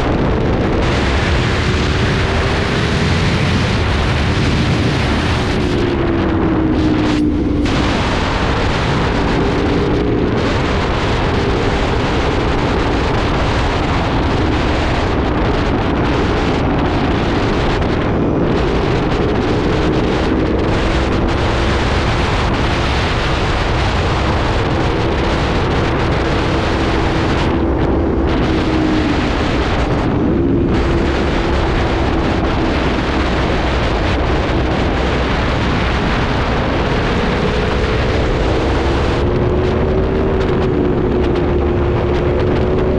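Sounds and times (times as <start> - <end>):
motorcycle engine running hard: 0.0 - 42.9
wind rushing over microphone: 0.0 - 42.9.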